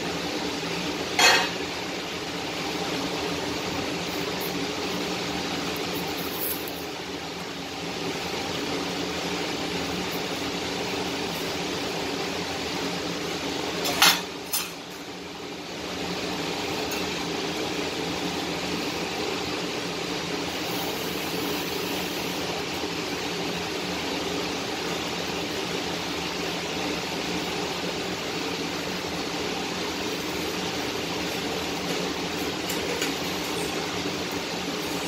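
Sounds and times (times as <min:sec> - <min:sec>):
welding torch flame hissing: 0:00.0 - 0:35.0.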